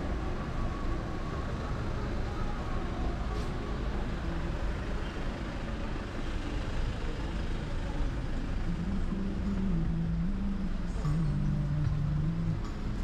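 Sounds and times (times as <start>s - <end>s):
low tune of held notes: 0.0s - 13.0s
vehicle engines running: 0.0s - 13.0s.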